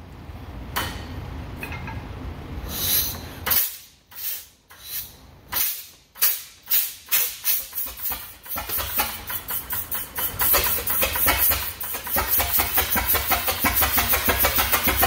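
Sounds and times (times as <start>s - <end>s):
engine exhaust puffs: 2.6s - 15.0s.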